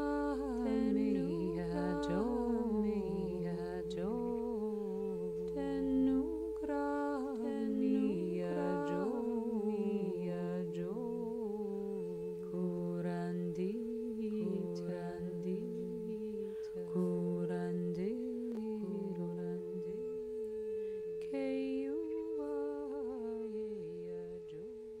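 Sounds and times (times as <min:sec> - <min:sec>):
person humming a slow melody: 0:00.0 - 0:25.0.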